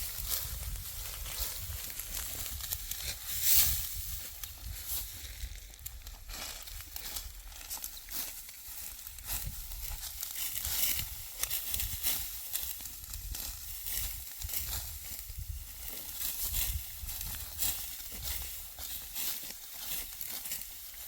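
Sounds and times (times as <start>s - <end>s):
sickle cutting dry wheat: 0.0s - 21.0s.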